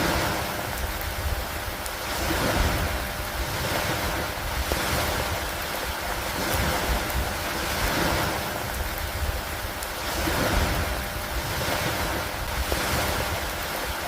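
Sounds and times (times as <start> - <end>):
rain on a wooden dock: 0.0 - 14.0.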